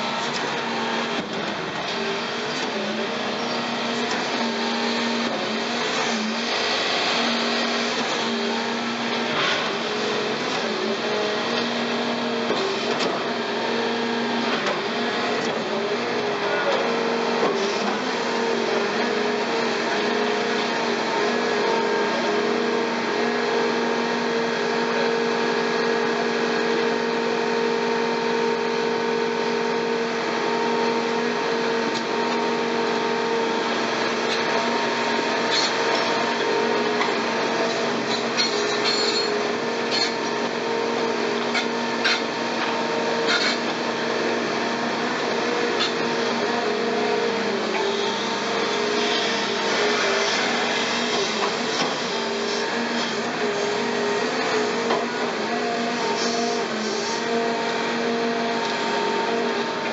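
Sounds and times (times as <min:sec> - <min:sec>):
excavator engine droning: 0:00.0 - 0:59.9.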